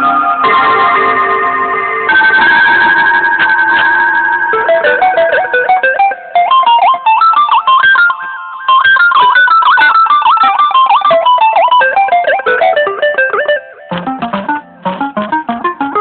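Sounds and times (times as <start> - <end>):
plucked guitar ringtone melody: 0.0 - 16.0.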